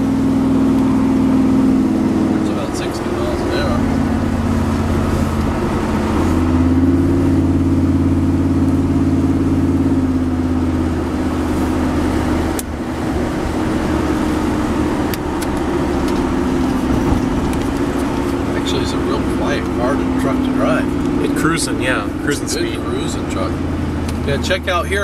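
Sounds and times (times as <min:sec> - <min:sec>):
road noise: 0:00.0 - 0:25.0
truck engine cruising: 0:00.0 - 0:25.0.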